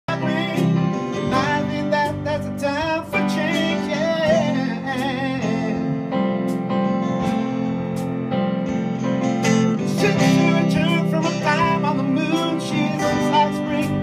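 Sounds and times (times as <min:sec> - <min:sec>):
electric guitar: 0:00.0 - 0:14.0
keyboard: 0:00.0 - 0:14.0
drums: 0:00.1 - 0:14.0.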